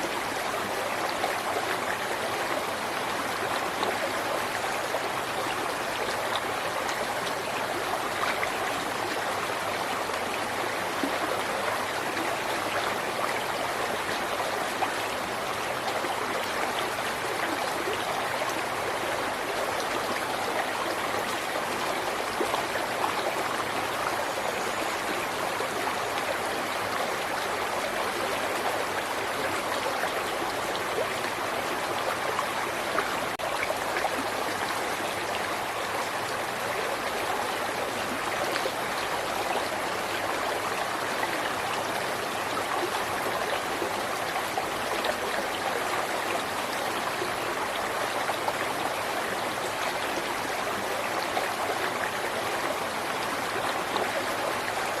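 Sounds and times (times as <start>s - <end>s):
river water babbling over stones: 0.0s - 55.0s.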